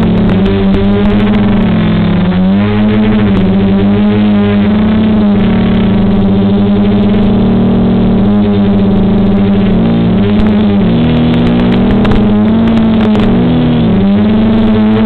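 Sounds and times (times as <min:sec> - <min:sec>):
quadcopter motors hovering: 0:00.0 - 0:15.0.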